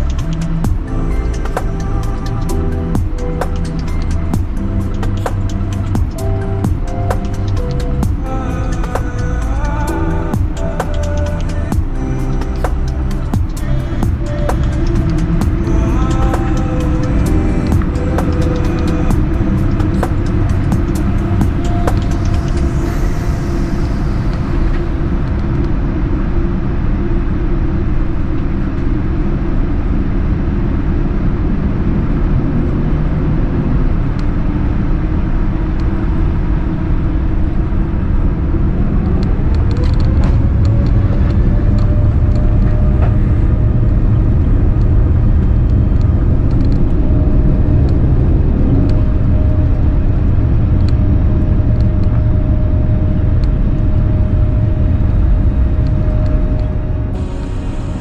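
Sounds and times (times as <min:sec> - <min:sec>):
jet engines rumbling at takeoff: 0:00.0 - 0:58.0.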